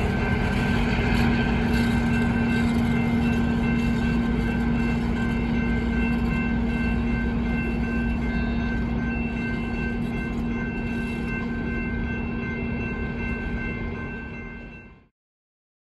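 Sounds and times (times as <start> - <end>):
crossing bell ringing: 0.0 - 15.1
train rumbling past: 0.0 - 15.1.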